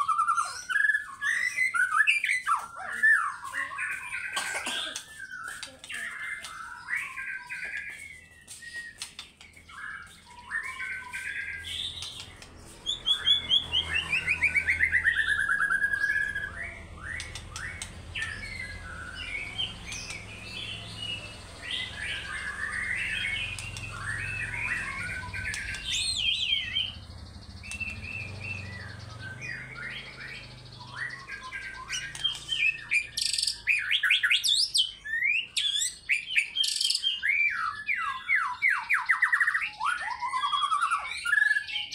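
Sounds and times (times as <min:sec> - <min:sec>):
bird singing whistles and chatter: 0:00.0 - 0:41.9.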